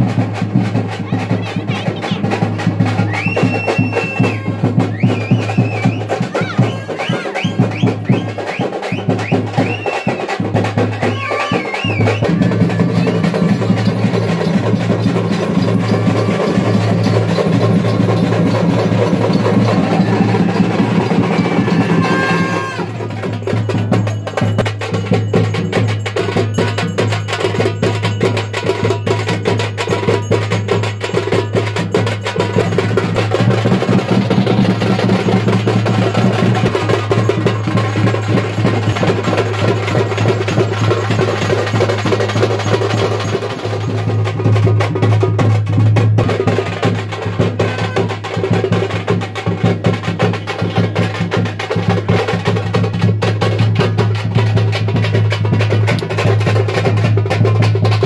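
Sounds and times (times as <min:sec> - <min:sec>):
fast percussion music: 0:00.0 - 0:58.0.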